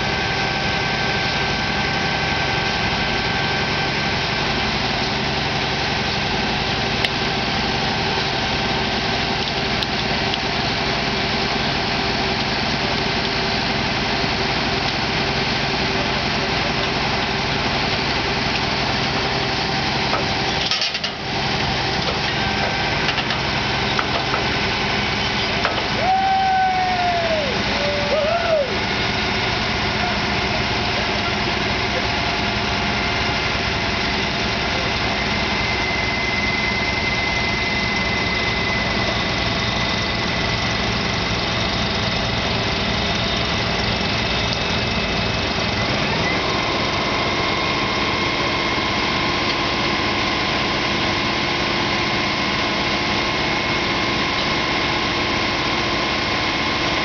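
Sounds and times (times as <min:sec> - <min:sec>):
tow truck engine: 0:00.0 - 0:57.0.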